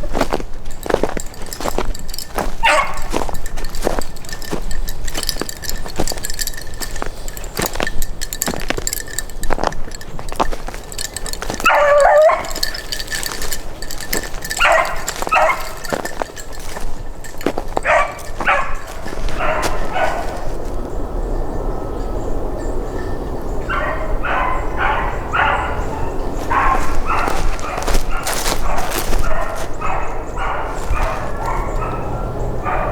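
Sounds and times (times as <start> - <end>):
hound baying and barking: 0.0 - 20.9, 23.6 - 32.9.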